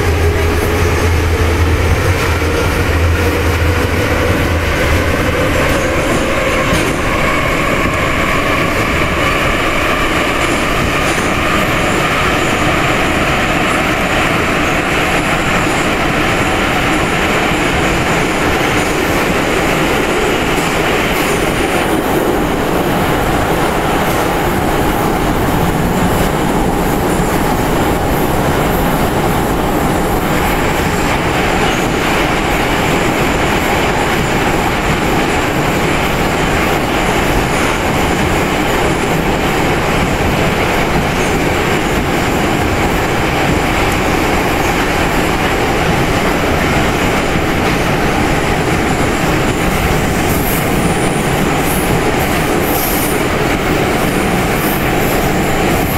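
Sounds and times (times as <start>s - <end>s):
subway wheels on rails: 0.0s - 55.9s.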